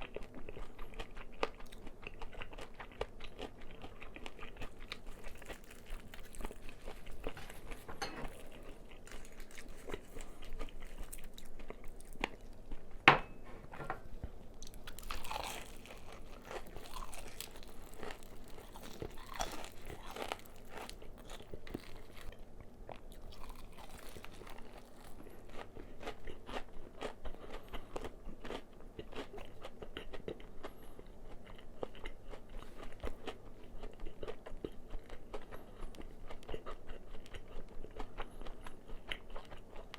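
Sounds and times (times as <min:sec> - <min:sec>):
crunching fried chicken: 0:00.0 - 0:12.9, 0:14.5 - 0:39.9.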